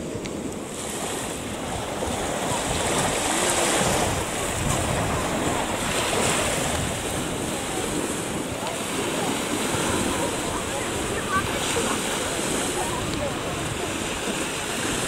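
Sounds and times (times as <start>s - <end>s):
waves breaking on sandy shore: 0.0s - 15.0s
wind rumbling on microphone: 0.0s - 15.0s.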